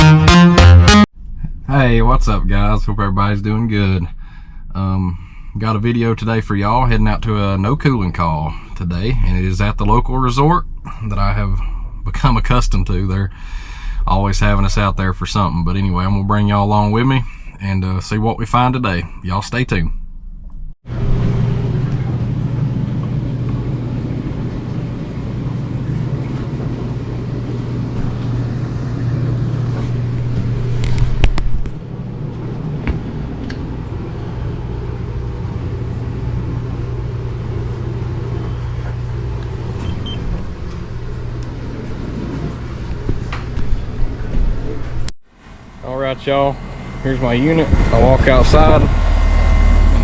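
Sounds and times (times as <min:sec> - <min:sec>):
vehicle engine drone: 0:00.0 - 0:50.0
road rumble: 0:01.1 - 0:50.0.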